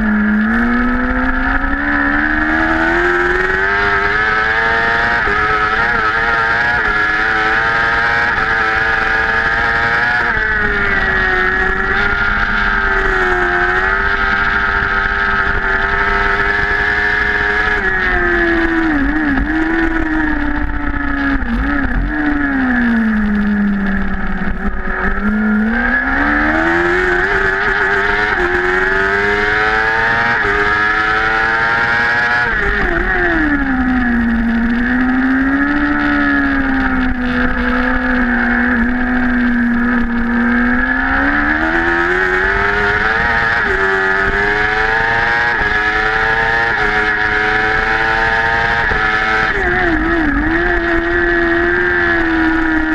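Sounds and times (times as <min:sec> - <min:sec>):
engine blips on downshifts: 0:00.0 - 0:52.9
motorcycle engine revving: 0:00.0 - 0:52.9.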